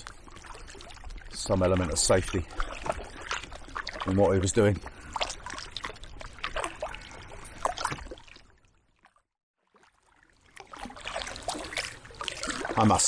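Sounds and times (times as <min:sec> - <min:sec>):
paddle strokes splashing water: 0:00.0 - 0:13.0.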